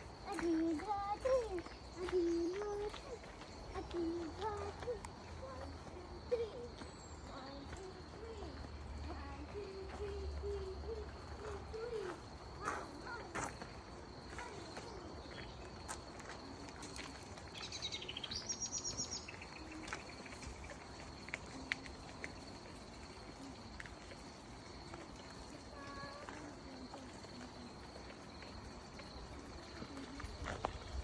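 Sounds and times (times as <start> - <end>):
songbird trill: 0.0 - 31.0.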